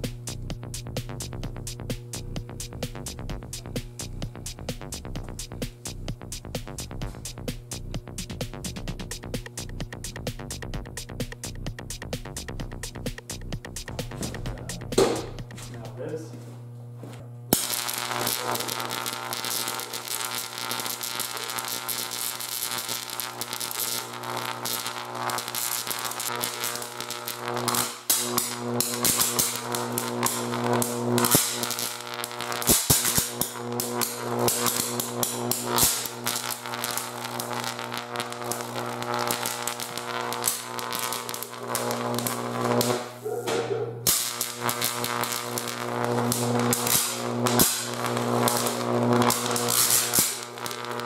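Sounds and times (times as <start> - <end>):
electrical arc buzzing and crackling: 0.0 - 51.0.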